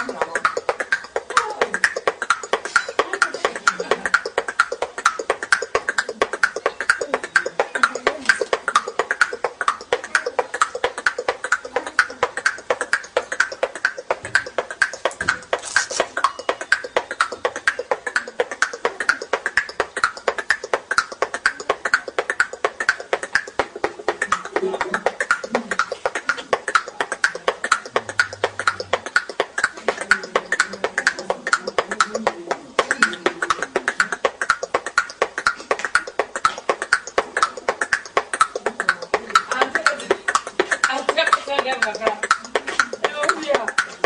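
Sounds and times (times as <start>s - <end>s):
teeth-clicking beatbox: 0.0s - 44.0s.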